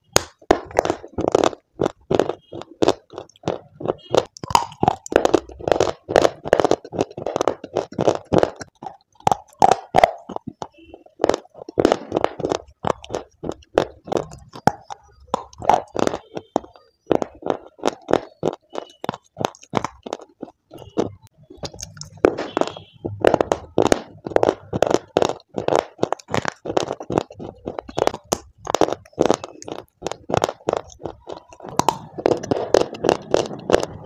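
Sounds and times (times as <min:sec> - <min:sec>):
crunching and chewing clay: 0:00.0 - 0:34.0.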